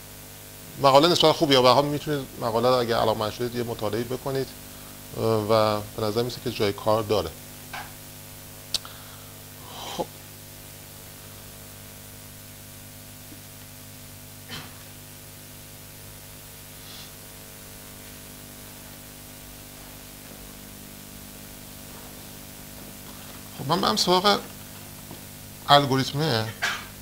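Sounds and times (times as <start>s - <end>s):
electrical hum and hiss: 0.0s - 27.0s.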